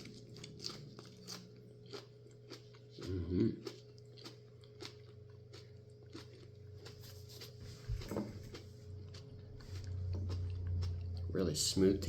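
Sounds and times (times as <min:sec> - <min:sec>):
person chewing: 0:00.0 - 0:11.8.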